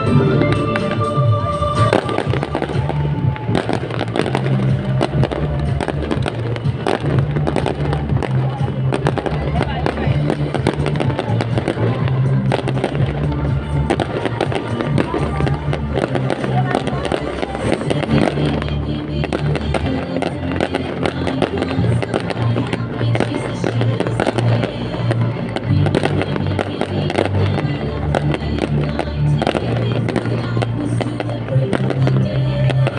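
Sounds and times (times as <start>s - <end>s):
fireworks bursting: 0.0s - 32.9s
loud music with bass notes: 0.0s - 32.9s.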